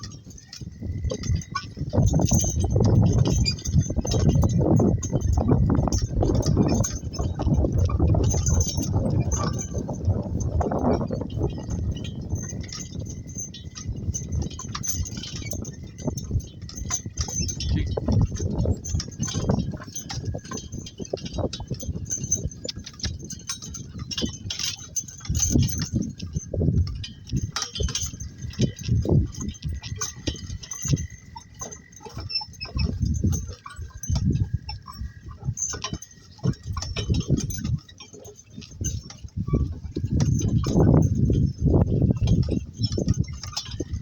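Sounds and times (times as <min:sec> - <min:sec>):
cart rattling: 0:00.0 - 0:44.0
donkey hooves thumping: 0:00.0 - 0:44.0.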